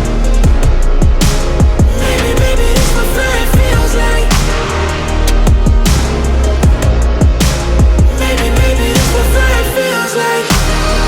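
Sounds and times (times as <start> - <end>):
dubstep music with heavy bass: 0.0 - 11.0.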